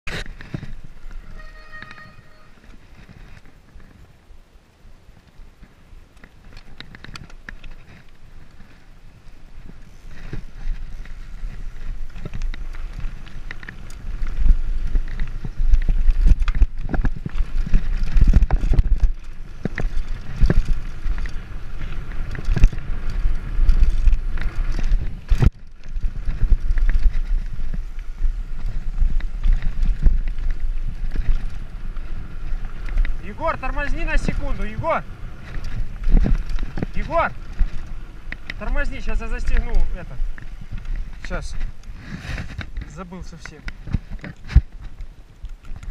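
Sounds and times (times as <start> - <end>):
bike knocking and rattling: 0.1 - 4.1, 5.2 - 45.9
wind rumbling on microphone: 0.1 - 45.9.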